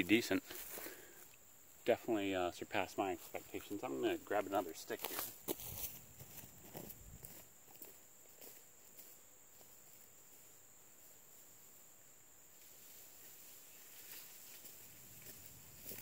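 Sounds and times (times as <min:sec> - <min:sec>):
faint insect chirring: 0:00.0 - 0:16.0.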